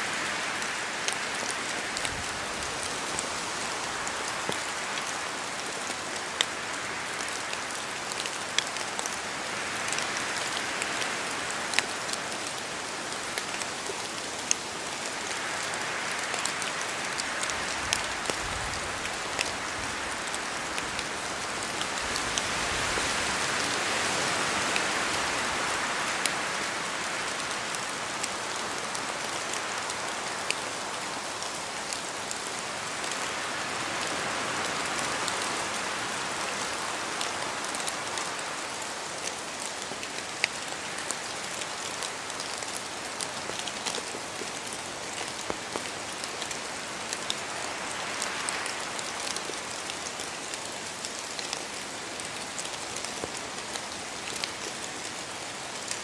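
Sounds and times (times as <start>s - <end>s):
steady rain: 0.0s - 56.0s
wind: 0.0s - 56.0s.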